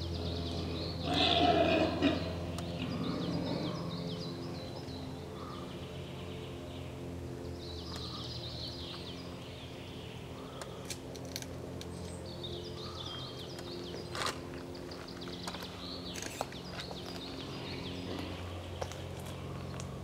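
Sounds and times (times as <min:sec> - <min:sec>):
songbird singing: 0:00.0 - 0:20.0
steady low hum: 0:00.0 - 0:20.0.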